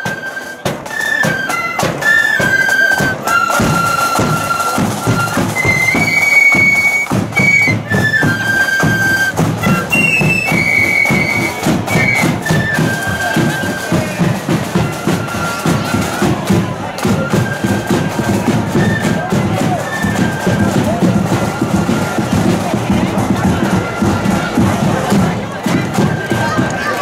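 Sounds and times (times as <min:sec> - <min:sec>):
flutes playing in unison: 0:00.0 - 0:27.0
steady drum beat: 0:00.0 - 0:27.0.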